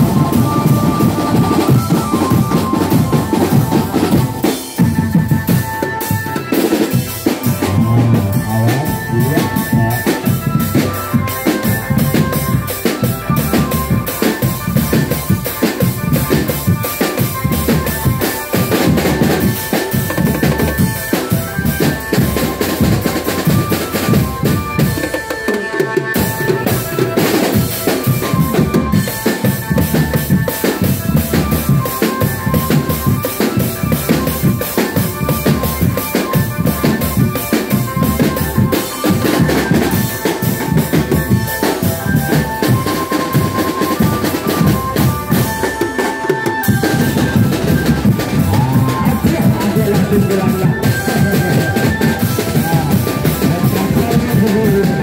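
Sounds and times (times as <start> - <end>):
melody line over drumming: 0.0 - 55.0
street drum band: 0.0 - 55.0.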